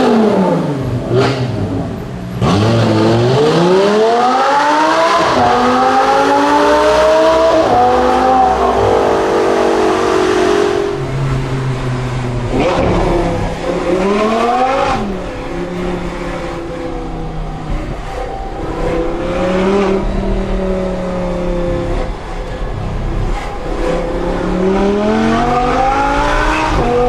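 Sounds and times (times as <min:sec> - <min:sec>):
sports car engine revving: 0:00.0 - 0:27.0.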